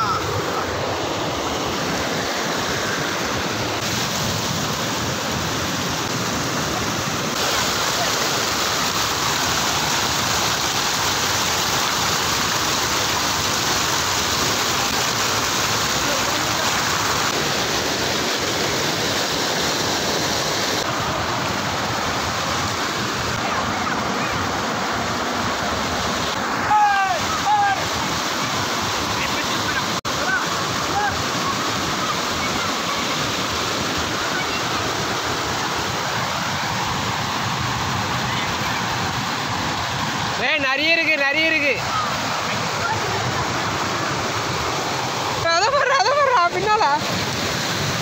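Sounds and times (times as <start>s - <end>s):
water rushing over weir: 0.0s - 48.0s.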